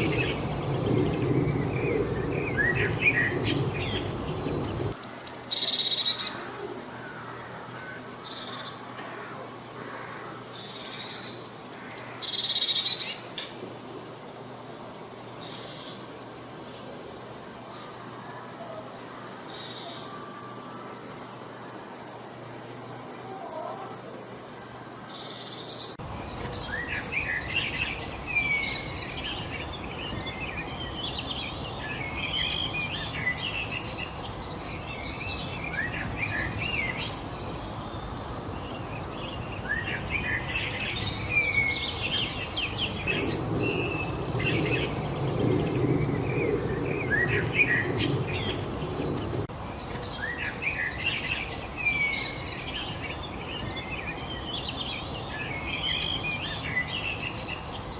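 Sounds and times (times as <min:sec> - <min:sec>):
songbirds singing and calling: 0:00.0 - 0:57.9
steady background hiss: 0:00.0 - 0:57.9.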